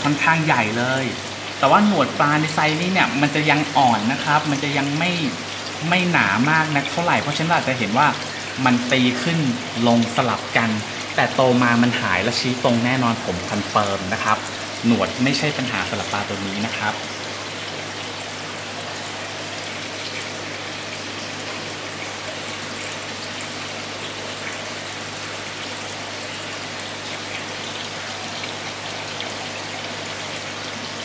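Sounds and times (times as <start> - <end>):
water trickling and splashing: 0.0 - 31.0.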